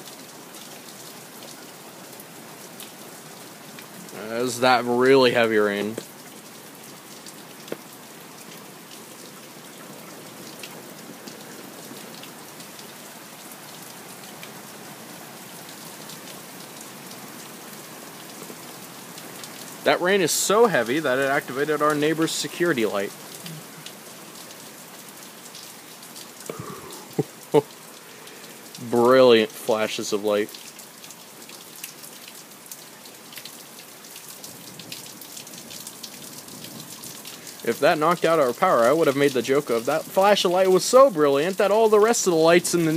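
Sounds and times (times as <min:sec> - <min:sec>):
heavy rain falling: 0:00.0 - 0:42.9
raindrops ticking close by: 0:00.0 - 0:42.9.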